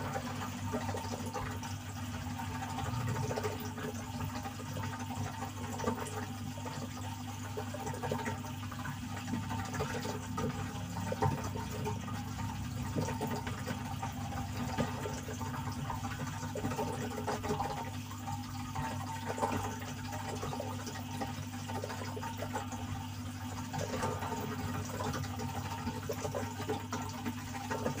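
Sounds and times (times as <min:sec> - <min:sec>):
aquarium water trickling: 0:00.0 - 0:28.0.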